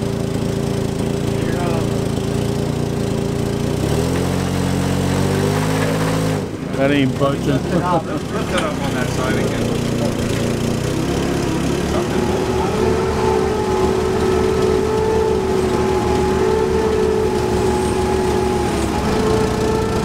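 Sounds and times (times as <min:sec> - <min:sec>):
forklift engine whining: 0:00.0 - 0:20.0.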